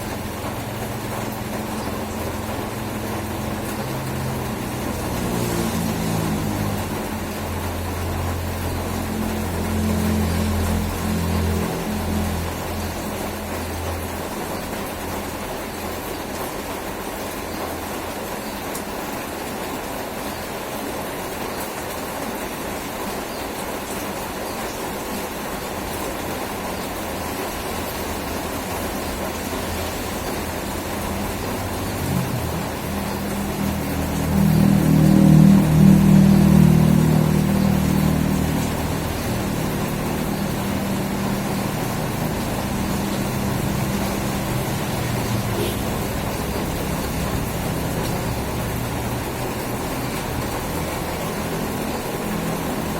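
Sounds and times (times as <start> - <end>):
vehicle engine humming: 0.0 - 18.8, 25.3 - 52.9
heavy rain: 0.0 - 52.9.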